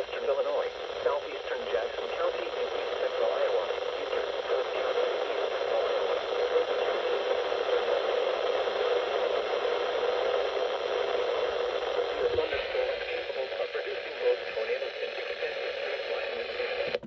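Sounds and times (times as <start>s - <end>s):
radio broadcast voice: 0.0s - 17.0s
radio static hiss: 0.0s - 17.0s.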